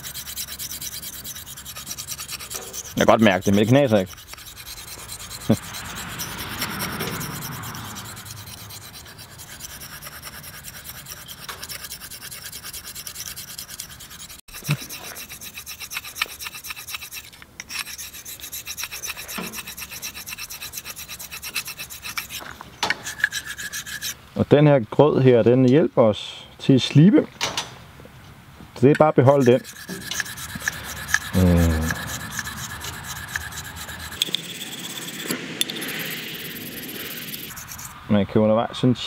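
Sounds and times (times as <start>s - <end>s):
knife blade scraping on whetstone: 0.0s - 24.2s, 28.9s - 38.0s.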